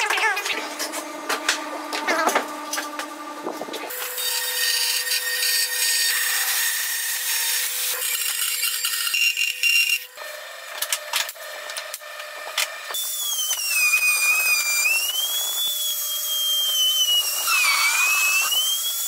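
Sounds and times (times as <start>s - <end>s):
band saw whining: 0.0s - 19.0s.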